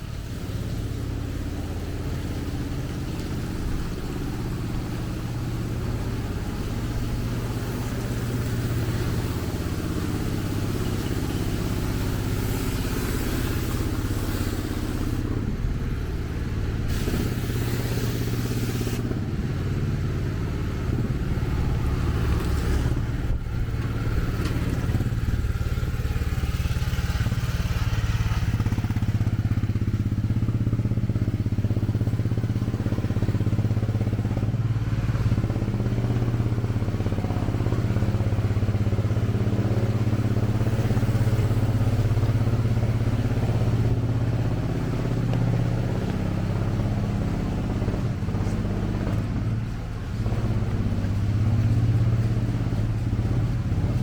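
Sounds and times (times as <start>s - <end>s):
motor vehicle engine humming: 0.0s - 54.0s
street noise hiss: 0.0s - 54.0s.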